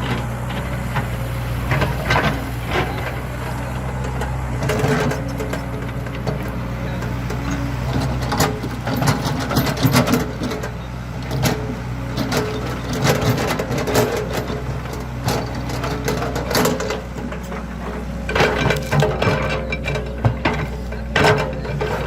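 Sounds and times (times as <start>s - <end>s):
excavator diesel engine running: 0.0s - 22.0s
machine clanks and knocks: 0.0s - 22.0s.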